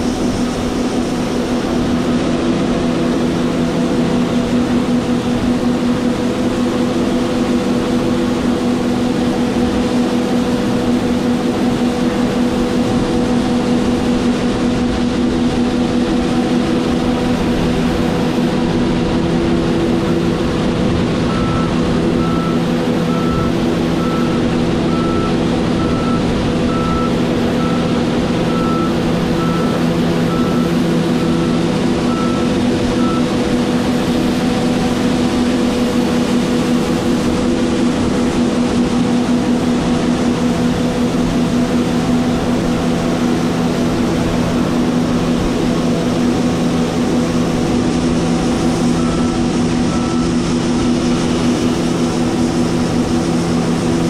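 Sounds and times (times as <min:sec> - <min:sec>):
combine engine and auger hum: 0:00.0 - 0:54.0.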